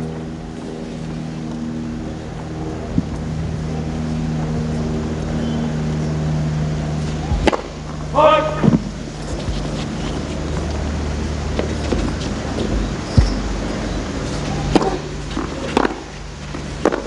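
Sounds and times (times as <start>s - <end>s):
low hum of court ambience: 0.0s - 17.0s.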